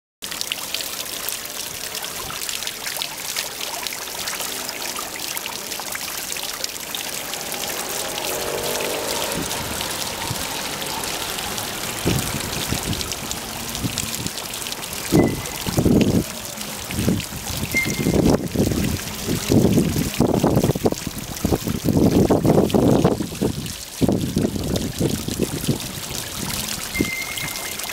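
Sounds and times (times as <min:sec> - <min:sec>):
fountain water splashing: 0:00.2 - 0:27.9
low rumbles: 0:03.5 - 0:27.9.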